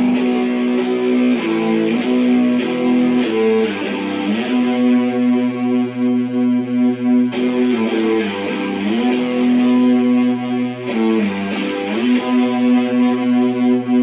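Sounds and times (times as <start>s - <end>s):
distorted electric guitar chord: 0.0s - 14.0s.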